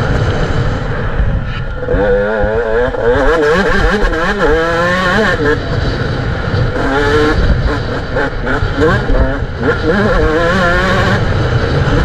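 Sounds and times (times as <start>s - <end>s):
motocross bike engine revving: 0.0s - 12.0s
wind buffeting microphone: 0.0s - 12.0s.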